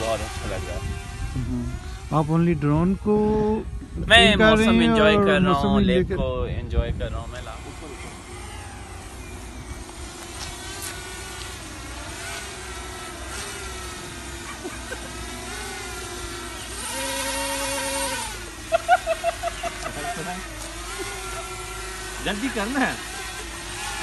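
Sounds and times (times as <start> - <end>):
quadcopter propellers whining: 0.0 - 24.0.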